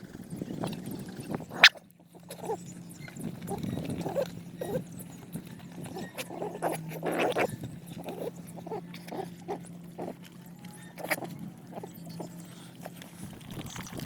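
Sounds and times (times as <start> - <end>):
dogs chewing and snuffling: 0.0 - 14.0.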